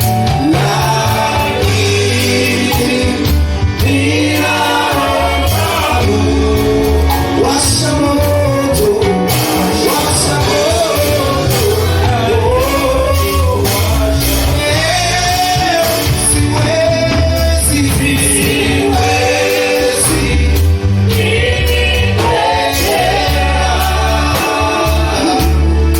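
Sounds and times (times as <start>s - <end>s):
bass: 0.0s - 25.9s
worship song with band: 0.0s - 25.9s.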